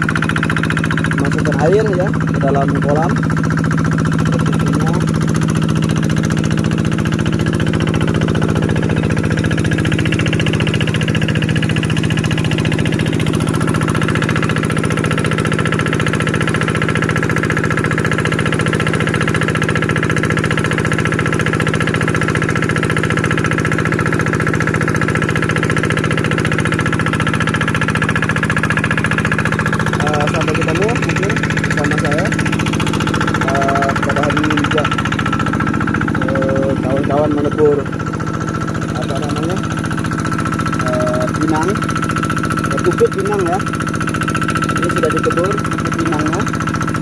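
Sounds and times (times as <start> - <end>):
engine-driven water pump running: 0.0 - 47.0.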